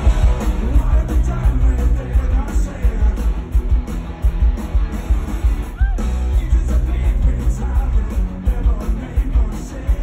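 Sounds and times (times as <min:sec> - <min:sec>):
rock band playing live: 0:00.0 - 0:10.0.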